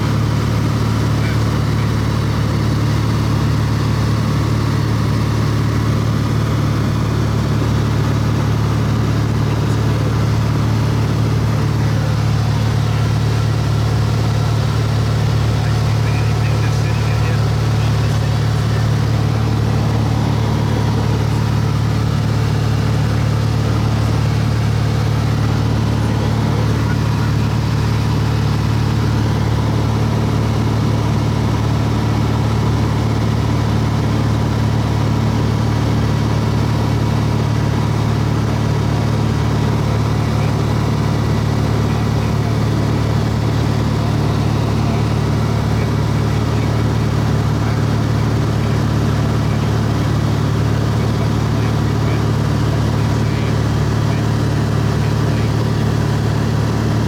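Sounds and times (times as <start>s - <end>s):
aircraft engine droning: 0.0s - 57.0s.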